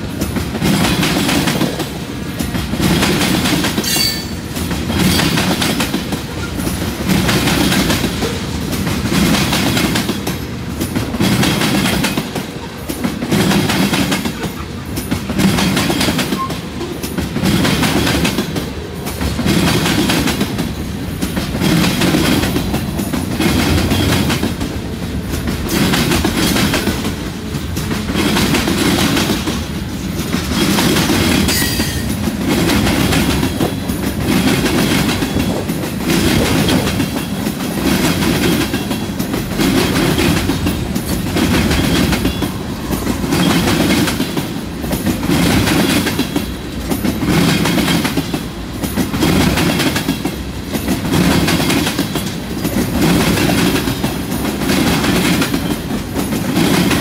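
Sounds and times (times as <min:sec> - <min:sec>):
train wheels clacking over rail joints: 0:00.0 - 0:57.0.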